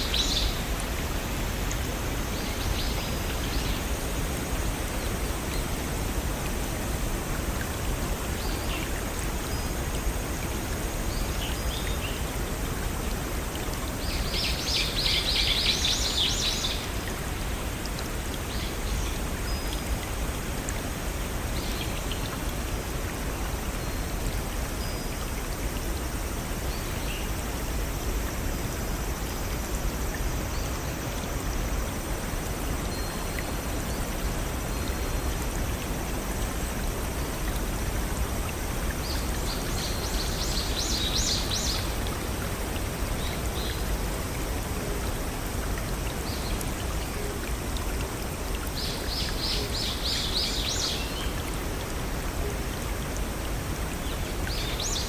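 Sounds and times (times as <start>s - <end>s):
stream rushing over waterfalls: 0.0s - 55.0s.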